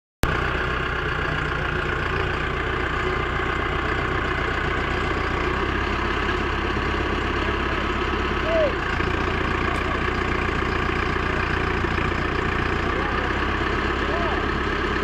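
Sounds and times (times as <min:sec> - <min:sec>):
heavy vehicle engine running: 0:00.2 - 0:15.0.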